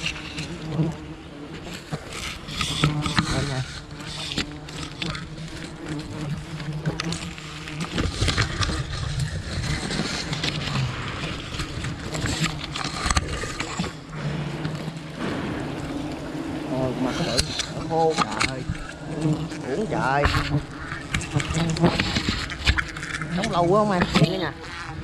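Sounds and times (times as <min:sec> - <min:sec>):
bees buzzing: 0:00.0 - 0:25.0
clicks and rustles: 0:01.6 - 0:16.2, 0:17.1 - 0:24.8.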